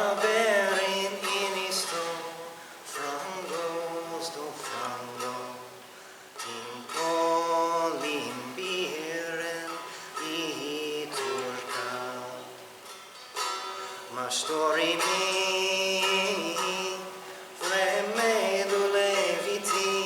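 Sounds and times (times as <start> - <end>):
person singing a folk lament: 0.0 - 20.0.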